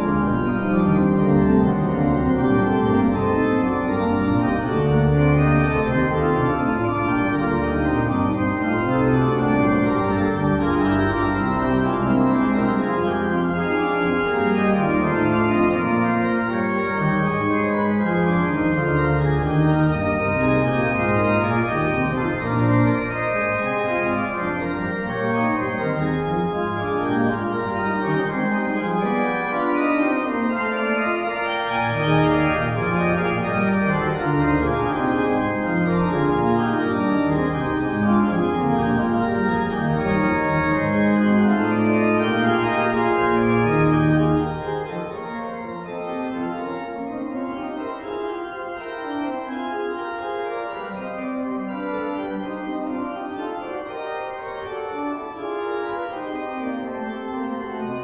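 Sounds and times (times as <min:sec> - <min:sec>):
church organ chords: 0:00.0 - 0:58.0
organ pedal bass line: 0:00.0 - 0:58.0.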